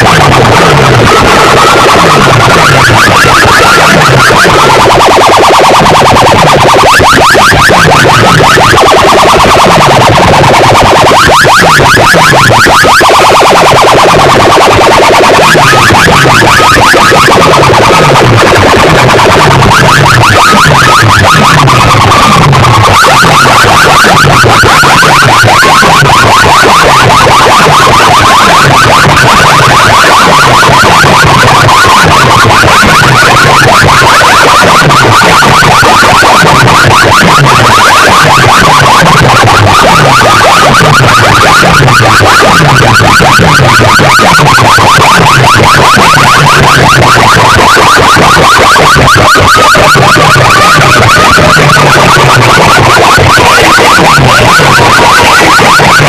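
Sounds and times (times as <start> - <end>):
wavering siren-like high tone: 0.0 - 56.0.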